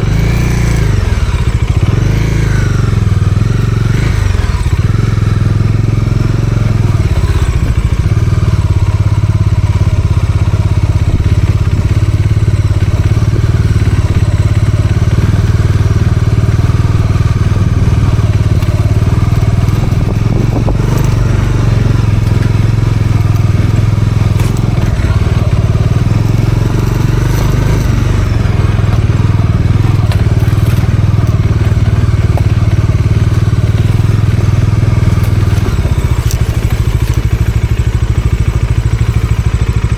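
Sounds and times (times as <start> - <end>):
motorcycle engine running: 0.0 - 39.9
tyres crunching on dirt track: 0.0 - 39.9.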